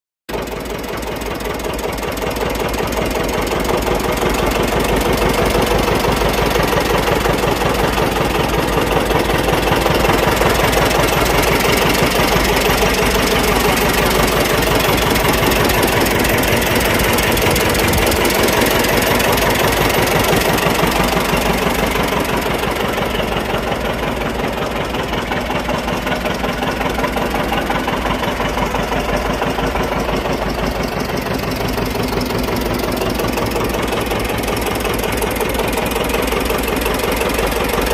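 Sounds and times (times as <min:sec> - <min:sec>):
diesel tractor engine idling: 0:00.3 - 0:37.9.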